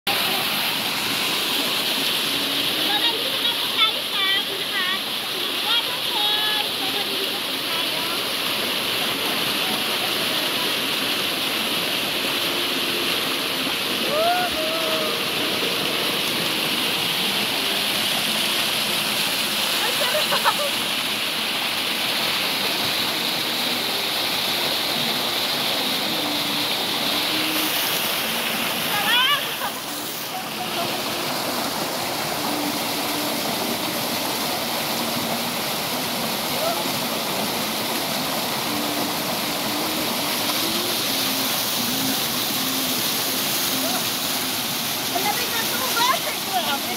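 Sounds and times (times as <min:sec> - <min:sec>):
waterfall cascading over rock: 0:00.0 - 0:46.9.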